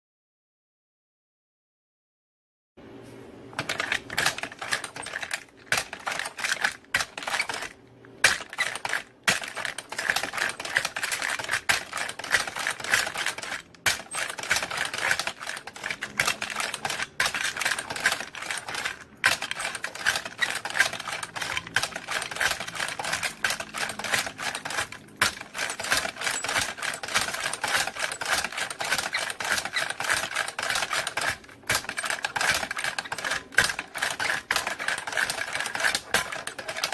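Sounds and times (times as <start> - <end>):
rapid metallic clacking machine: 3.6 - 36.9.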